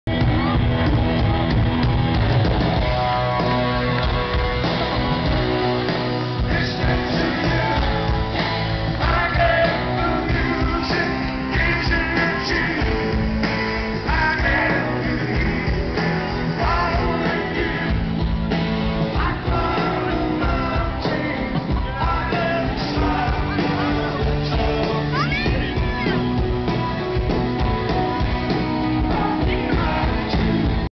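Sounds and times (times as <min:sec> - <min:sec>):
live rock band playing: 0:00.1 - 0:30.9
lead singer: 0:02.7 - 0:30.9.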